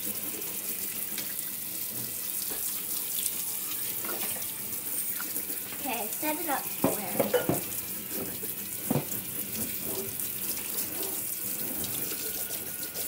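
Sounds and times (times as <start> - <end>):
faucet water splashing into sink: 0.0 - 13.0.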